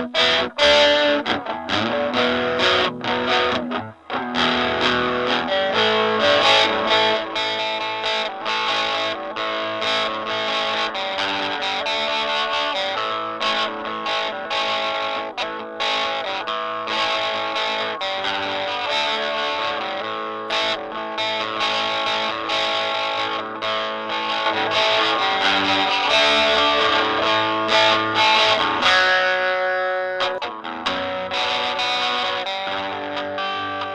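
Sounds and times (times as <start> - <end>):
distorted electric guitar music: 0.0 - 33.9.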